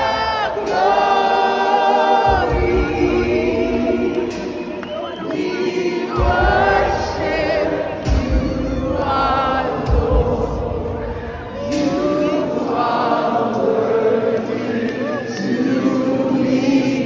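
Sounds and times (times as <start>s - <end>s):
choir singing gospel music: 0.0s - 17.0s.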